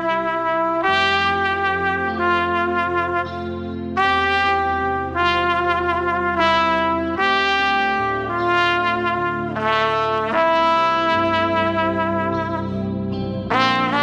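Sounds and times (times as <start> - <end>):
bass line accompaniment: 0.0 - 14.0
trumpet playing slow melody: 0.0 - 14.0.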